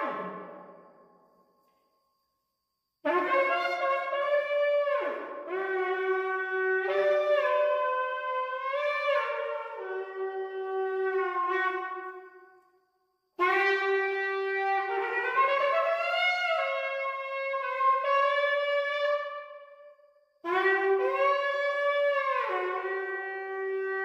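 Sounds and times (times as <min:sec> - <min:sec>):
shofar blasts: 0:00.0 - 0:01.0, 0:03.0 - 0:12.4, 0:13.4 - 0:24.0.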